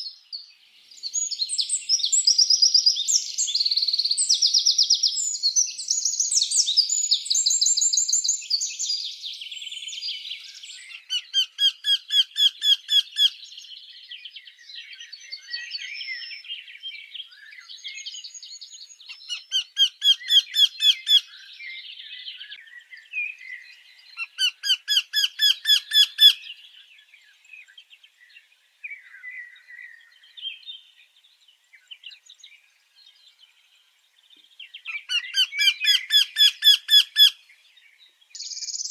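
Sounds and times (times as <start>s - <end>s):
birds singing and calling: 0.0s - 38.9s
loud bird song of rapid notes: 0.0s - 38.9s.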